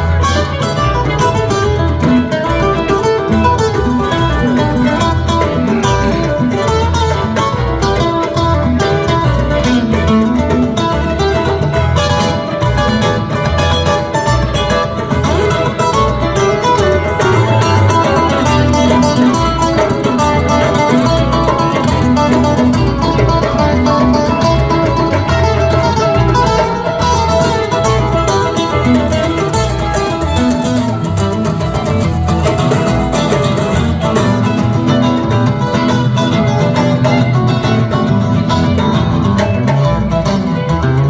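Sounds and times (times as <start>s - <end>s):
electric guitar: 0.0s - 41.0s
live rock band playing: 0.0s - 41.0s.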